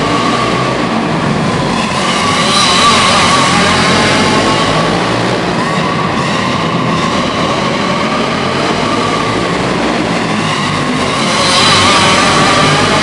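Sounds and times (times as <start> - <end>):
racing kart engines whining: 0.0 - 13.0.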